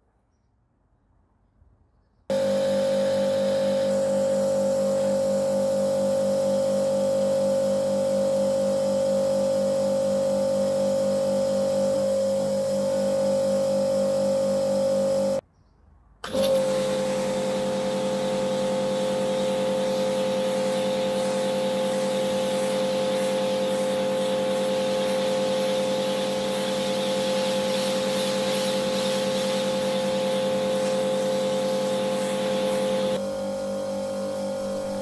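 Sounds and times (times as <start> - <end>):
pressure washer spraying: 2.3 - 15.4, 16.2 - 33.2.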